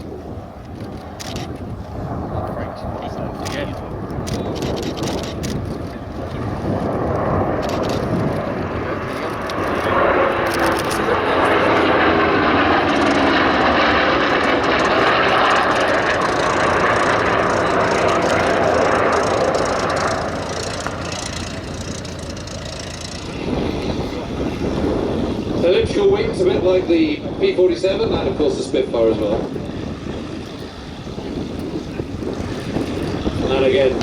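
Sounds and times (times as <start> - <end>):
propeller plane flying past: 0.0 - 34.0.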